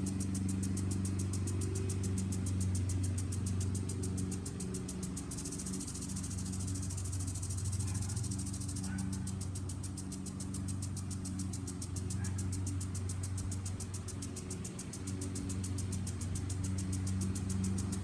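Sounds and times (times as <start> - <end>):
lawn mower engine humming: 0.0 - 18.0
lawn sprinkler spraying and ticking: 0.0 - 18.0.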